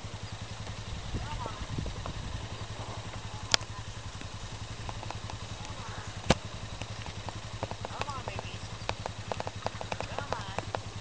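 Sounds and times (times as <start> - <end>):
low throbbing engine hum: 0.0 - 11.0.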